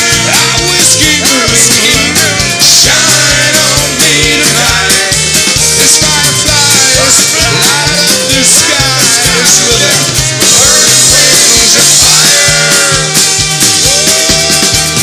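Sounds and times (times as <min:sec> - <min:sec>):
man singing into microphone: 0:00.0 - 0:13.2
bass: 0:00.0 - 0:15.0
drum beat: 0:00.0 - 0:15.0.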